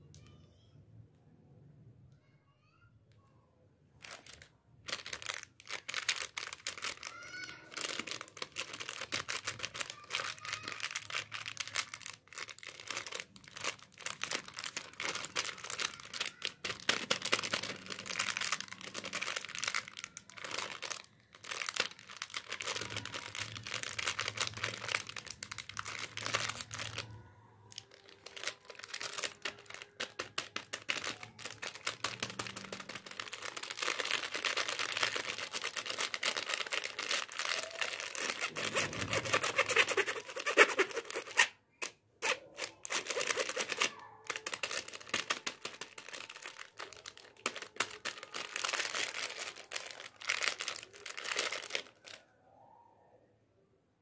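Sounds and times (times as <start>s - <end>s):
plastic packet crinkling: 4.0s - 52.2s.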